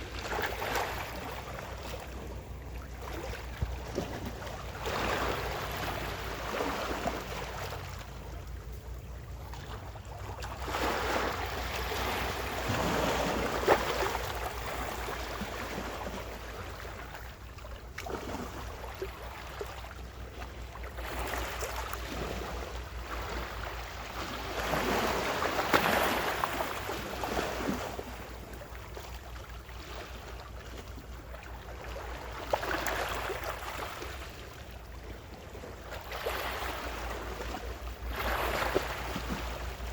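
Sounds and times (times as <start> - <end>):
ocean waves washing on shore: 0.0 - 19.8, 20.5 - 39.9.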